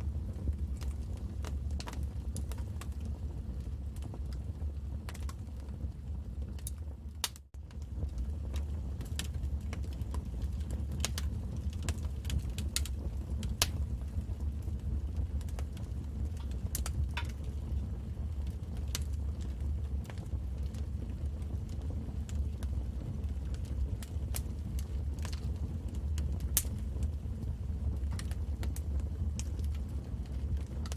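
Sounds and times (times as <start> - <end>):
low rumble of fire: 0.0 - 30.9
wood fire pops and snaps: 0.1 - 30.9.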